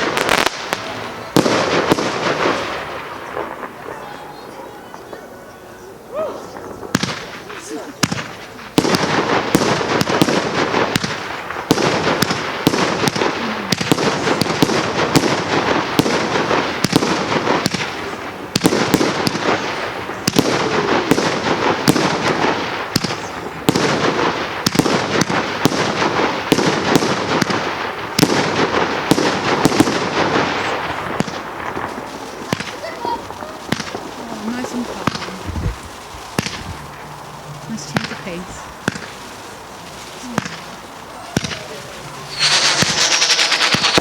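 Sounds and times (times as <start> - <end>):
firework barrage bangs and pops: 0.0 - 4.2, 6.5 - 44.0.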